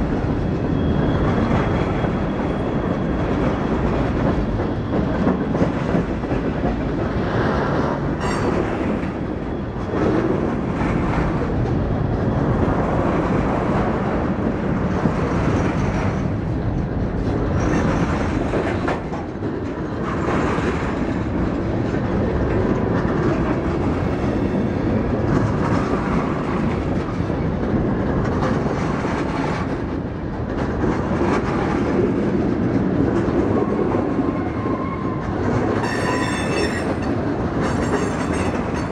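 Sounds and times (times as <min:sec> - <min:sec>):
train wheels clacking on rails: 0:00.0 - 0:38.9.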